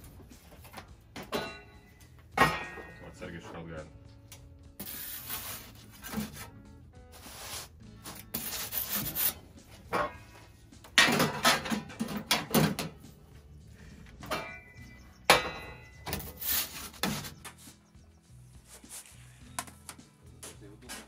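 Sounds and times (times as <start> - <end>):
metal peel and firewood scraping: 0.0 - 3.9, 4.8 - 19.6.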